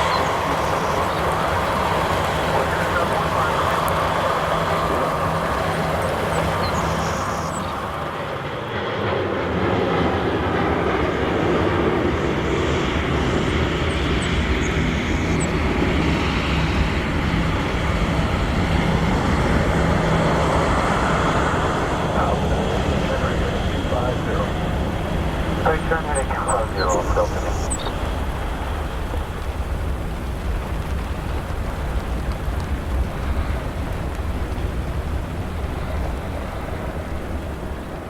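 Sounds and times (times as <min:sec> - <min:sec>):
airliner engines rumbling: 0:00.0 - 0:38.0.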